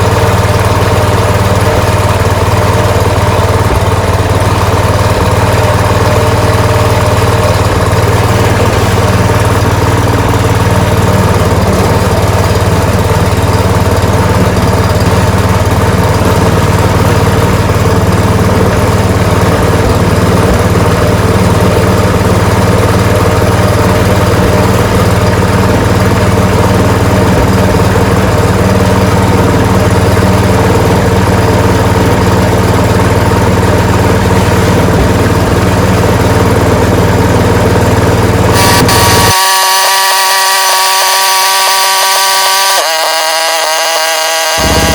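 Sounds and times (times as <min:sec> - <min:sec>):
small engine running steadily: 0:00.0 - 0:44.9.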